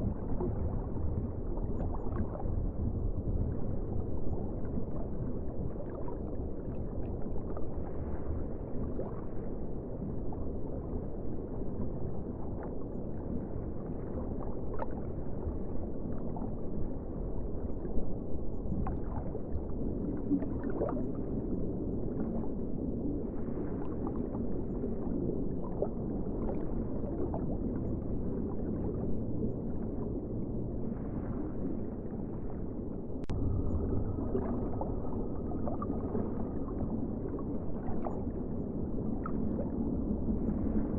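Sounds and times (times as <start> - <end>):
muffled ocean water washing: 0.0 - 40.9.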